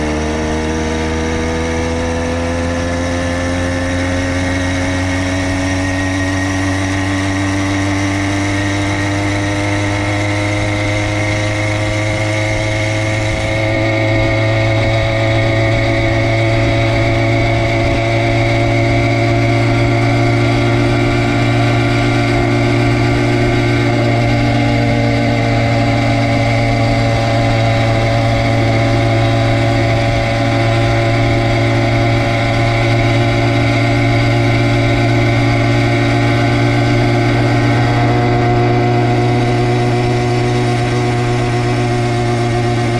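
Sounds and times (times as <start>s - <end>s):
small motor engine running hard: 0.0s - 42.9s.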